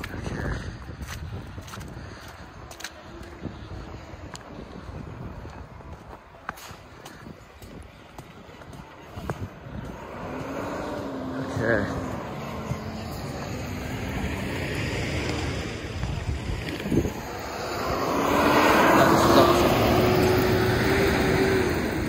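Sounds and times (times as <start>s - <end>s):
traffic noise: 0.0s - 22.0s
vehicle engine: 0.0s - 22.0s.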